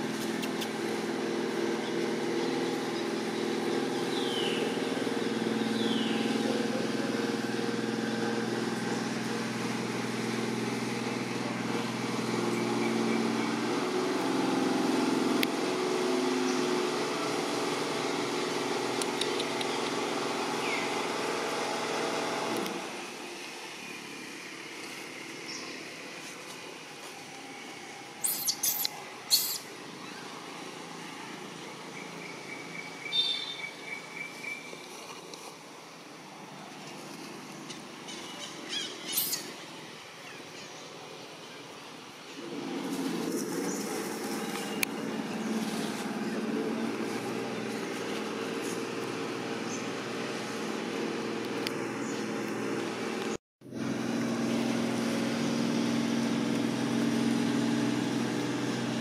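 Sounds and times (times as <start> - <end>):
vehicle engine idling: 0.0 - 34.2, 42.4 - 59.0.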